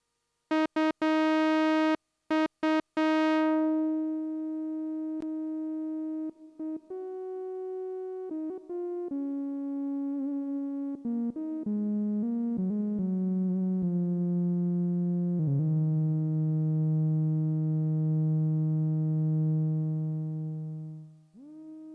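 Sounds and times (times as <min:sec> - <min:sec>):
buzzy synthesizer notes: 0:03.0 - 0:21.9.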